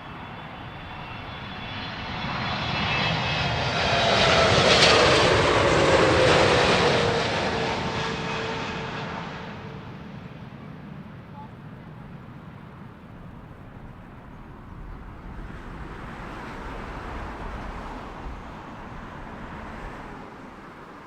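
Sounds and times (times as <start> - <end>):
jet airliner passing overhead: 0.0 - 21.0
jet engine whine: 0.0 - 21.0.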